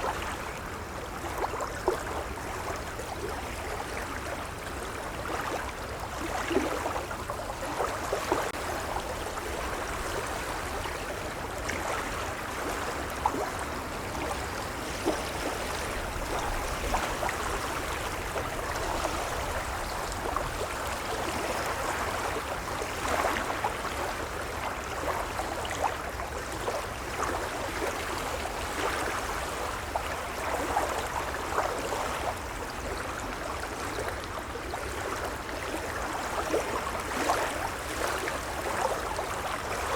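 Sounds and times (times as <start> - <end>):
gentle waves lapping: 0.0 - 39.9.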